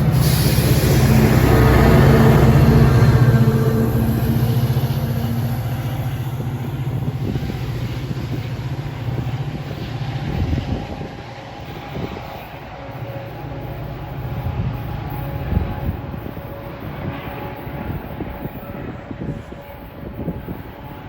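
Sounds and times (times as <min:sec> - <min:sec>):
diesel train passing: 0:00.0 - 0:21.0.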